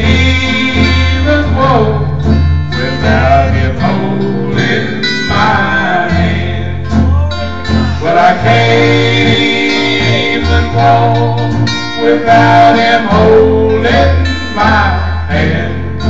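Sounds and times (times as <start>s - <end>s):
acoustic guitar: 0.0s - 16.0s
man singing gospel song: 0.0s - 16.0s.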